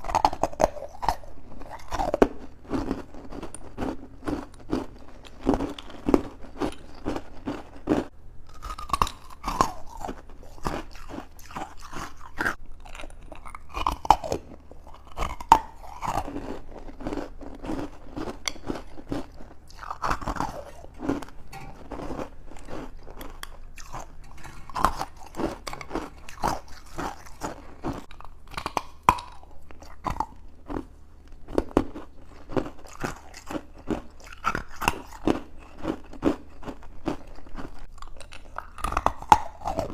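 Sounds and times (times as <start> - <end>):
chewing and crunching ice: 0.0 - 39.9.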